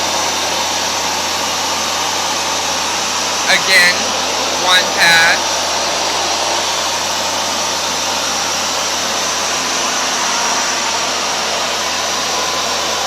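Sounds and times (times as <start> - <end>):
carpet washer whooshing: 0.0 - 13.0.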